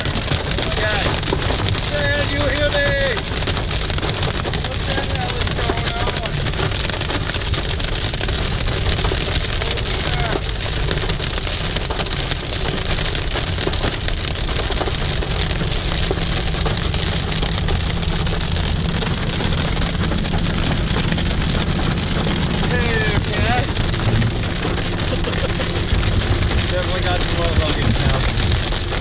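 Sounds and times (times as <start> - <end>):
heavy rain on windshield and roof: 0.0 - 29.0
truck driving rumble: 0.0 - 29.0.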